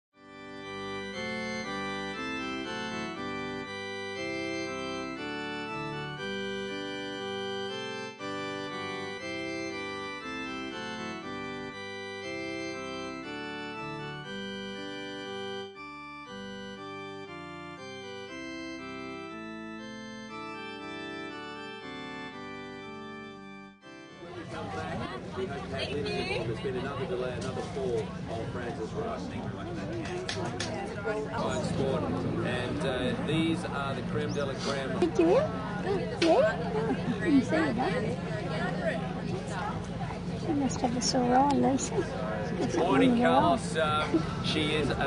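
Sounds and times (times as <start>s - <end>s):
organ chords: 0.2s - 30.0s, 31.0s - 45.0s.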